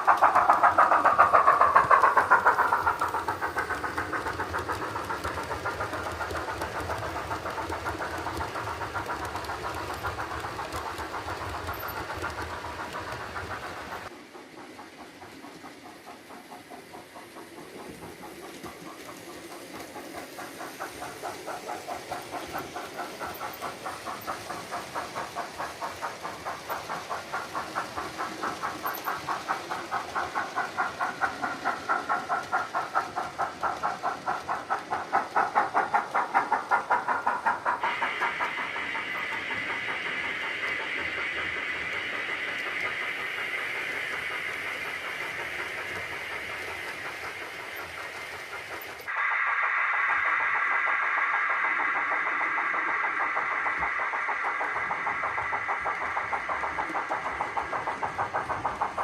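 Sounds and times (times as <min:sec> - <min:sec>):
steam locomotive chuffing: 0:00.0 - 0:59.0
wheel and track rumble: 0:00.0 - 0:59.0.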